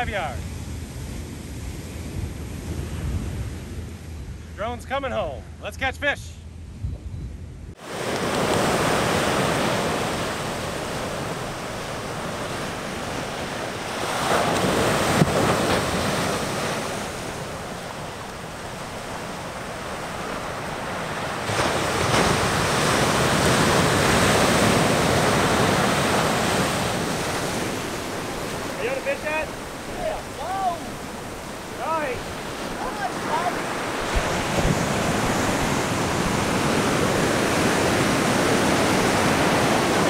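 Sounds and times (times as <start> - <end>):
wind buffeting microphone: 0.0 - 4.6, 6.5 - 40.0
surf breaking on beach: 7.8 - 40.0.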